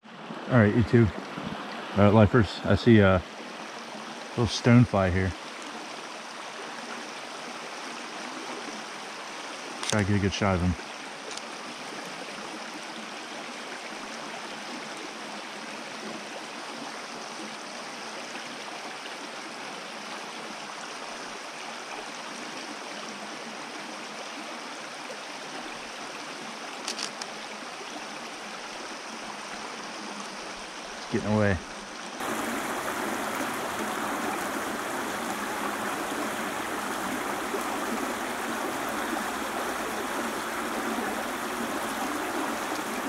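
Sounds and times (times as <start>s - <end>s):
stream running over stones: 0.0s - 43.0s.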